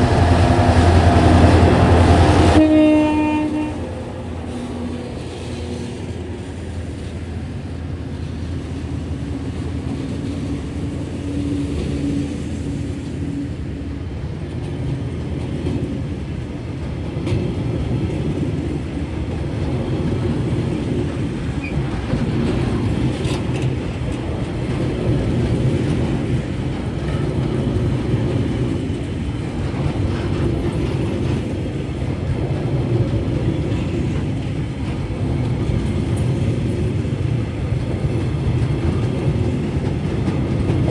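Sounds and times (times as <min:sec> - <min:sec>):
diesel locomotive engine drone: 0:00.0 - 0:40.9
train rolling rumble: 0:00.0 - 0:40.9.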